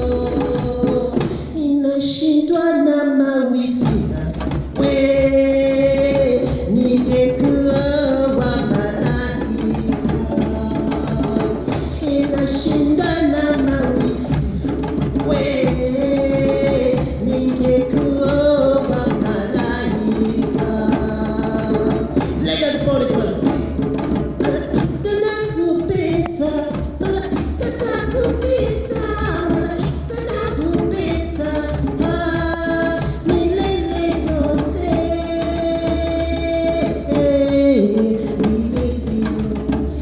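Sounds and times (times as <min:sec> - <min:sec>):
hand drum percussion: 0:00.0 - 0:02.6, 0:03.6 - 0:40.0.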